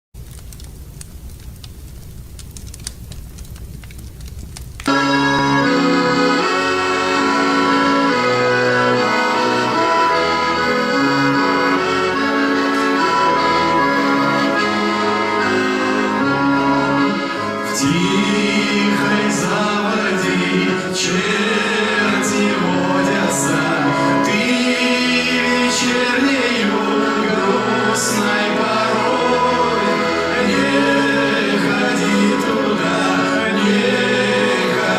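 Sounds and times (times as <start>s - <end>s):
accordion playing: 4.9s - 34.9s.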